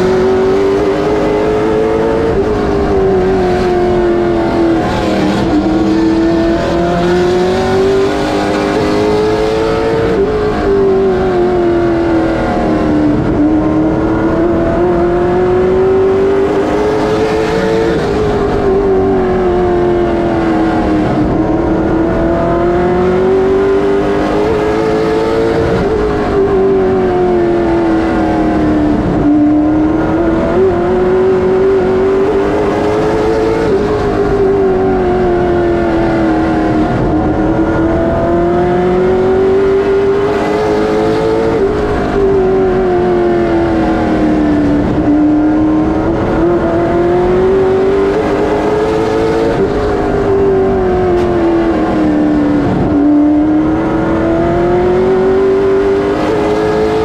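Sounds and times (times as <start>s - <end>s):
race car engine under load: 0.0s - 57.0s.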